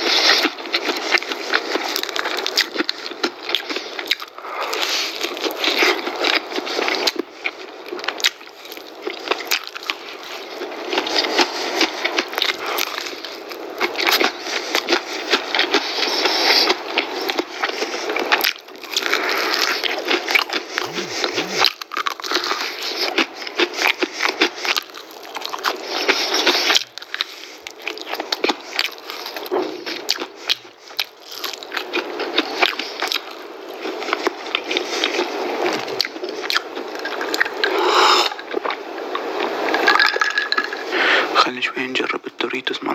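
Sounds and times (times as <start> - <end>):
crunching and chewing food: 0.0 - 42.6.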